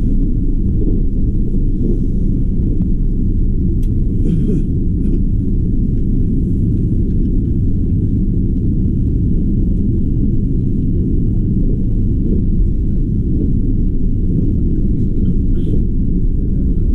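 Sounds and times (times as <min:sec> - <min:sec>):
train rumbling on track: 0:00.0 - 0:16.9.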